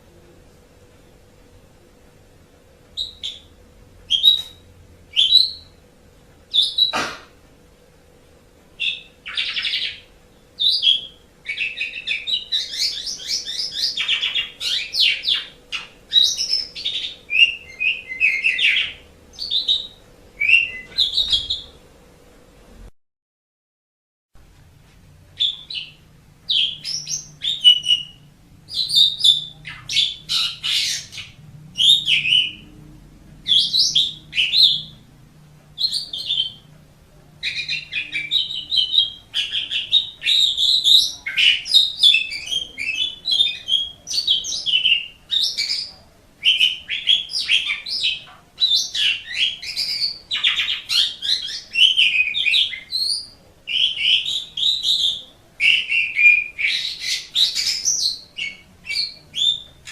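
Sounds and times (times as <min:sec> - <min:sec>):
starling singing: 0:03.0 - 0:05.8, 0:08.8 - 0:21.8, 0:25.4 - 0:32.8, 0:33.4 - 0:35.1, 0:35.8 - 0:36.7, 0:37.4 - 0:59.9.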